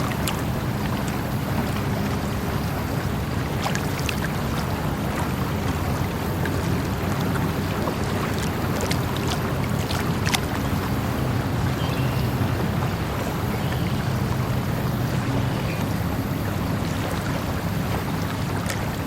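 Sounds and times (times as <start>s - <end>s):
water flowing: 0.0s - 19.0s.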